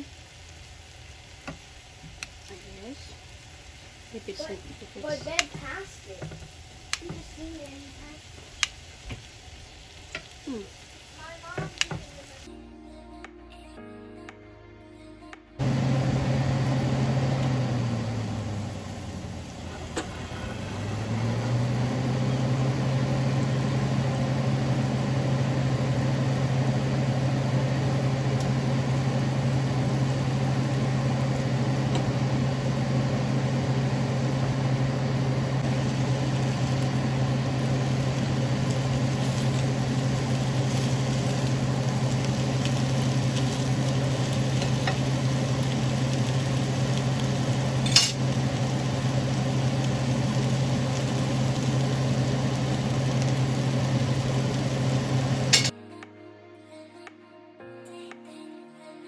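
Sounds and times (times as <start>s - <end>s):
steak sizzling in a pan: 0.0s - 12.5s, 15.6s - 55.7s.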